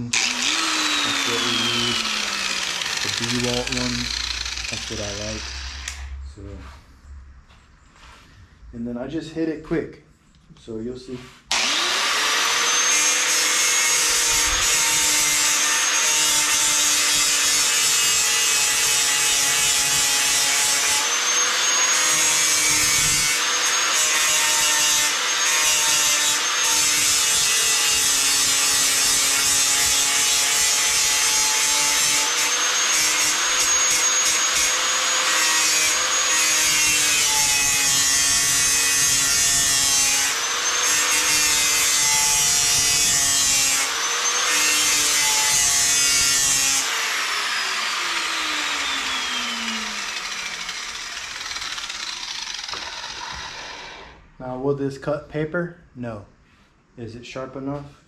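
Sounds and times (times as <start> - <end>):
angle grinder grinding metal: 0.0 - 6.8, 11.5 - 54.2.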